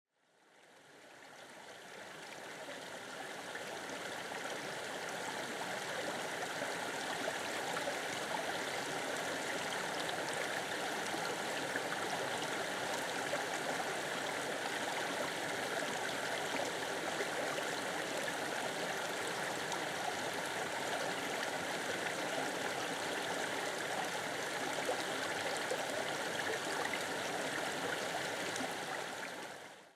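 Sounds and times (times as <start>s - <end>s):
stream water flowing: 0.4s - 29.9s.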